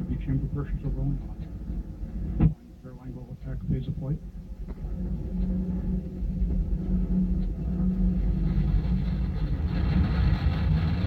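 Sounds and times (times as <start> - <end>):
rocket engine deep rumble: 0.0 - 11.0.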